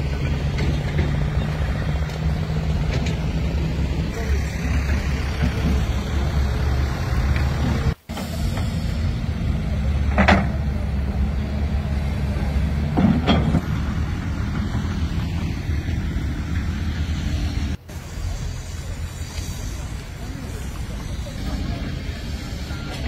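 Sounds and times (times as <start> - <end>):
construction machinery engine rumble: 0.0 - 23.0.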